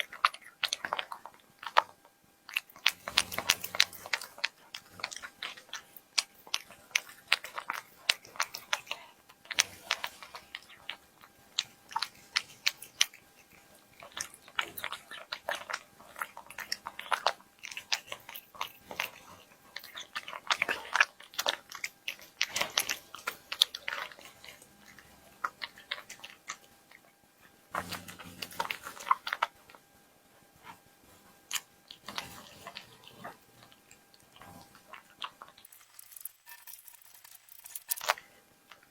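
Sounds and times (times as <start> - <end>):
cat chewing food: 0.0 - 38.9.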